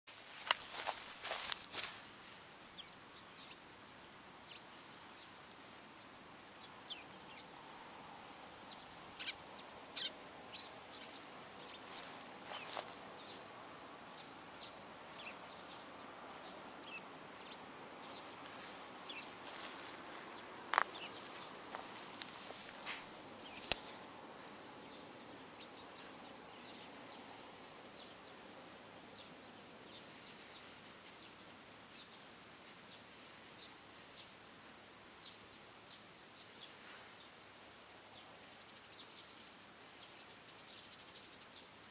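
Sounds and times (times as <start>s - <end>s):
open-air background noise: 0.1s - 41.9s.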